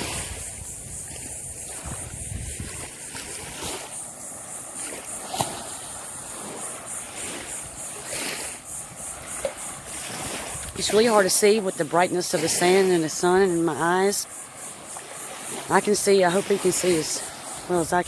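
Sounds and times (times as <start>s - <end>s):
cicadas buzzing: 0.0s - 18.0s
small waves washing on shore: 0.0s - 18.0s
wind buffeting microphone: 0.0s - 18.0s.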